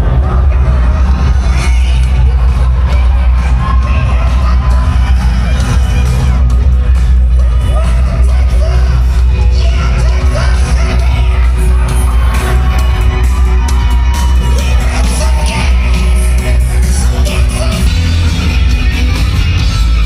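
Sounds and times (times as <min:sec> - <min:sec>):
crowd whooping and shouting: 0:00.0 - 0:20.0
loud music with heavy bass: 0:00.0 - 0:20.0
person singing: 0:00.0 - 0:20.0.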